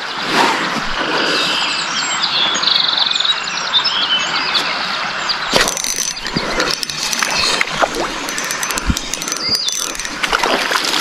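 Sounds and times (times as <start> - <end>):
outdoor background noise: 0.0 - 11.0
birds chirping and singing: 1.0 - 10.8.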